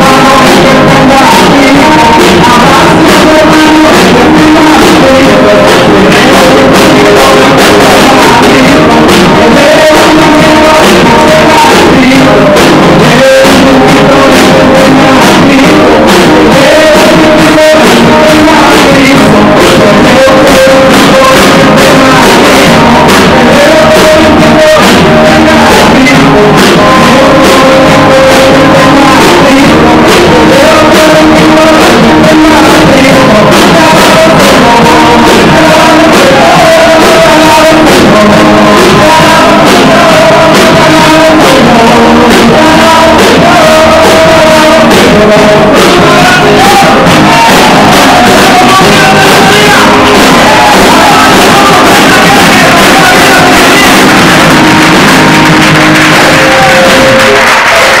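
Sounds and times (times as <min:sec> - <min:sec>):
band playing worship music: 0:00.0 - 0:58.0
congregation clapping along: 0:00.0 - 0:58.0
man singing: 0:00.0 - 0:58.0.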